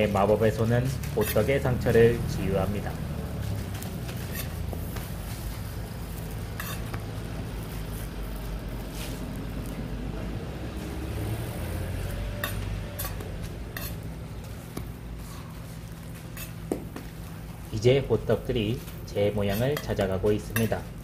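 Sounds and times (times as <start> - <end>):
pancakes sizzling on a griddle: 0.0 - 21.0
steady low hum: 0.0 - 21.0.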